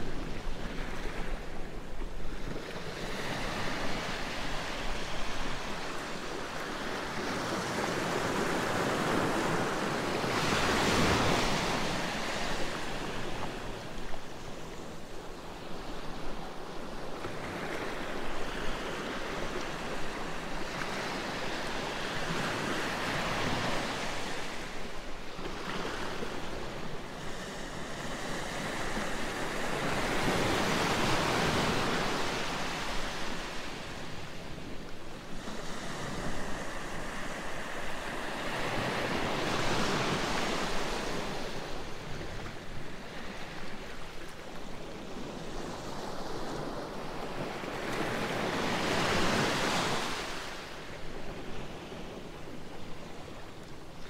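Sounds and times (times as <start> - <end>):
sea waves breaking and washing: 0.0 - 54.0.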